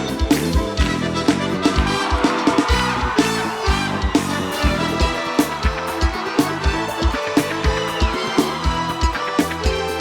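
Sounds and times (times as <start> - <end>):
live band playing: 0.0 - 10.0
steady drum beat: 0.0 - 10.0.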